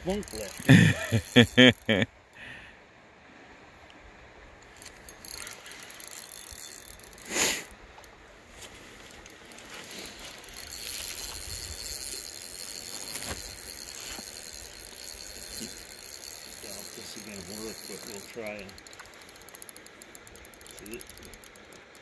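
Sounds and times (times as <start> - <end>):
fishing reel clicking: 0.0 - 1.9, 4.7 - 8.1, 9.1 - 22.0.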